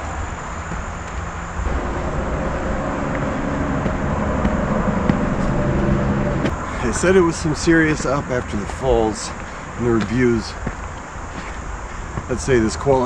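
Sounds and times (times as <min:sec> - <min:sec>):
background noise: 0:00.0 - 0:13.0
distant engine drone: 0:00.0 - 0:13.0.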